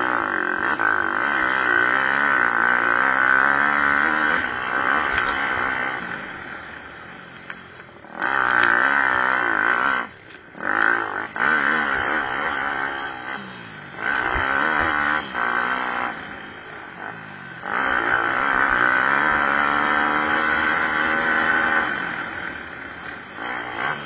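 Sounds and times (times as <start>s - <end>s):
pit bike engines revving: 0.0s - 24.0s.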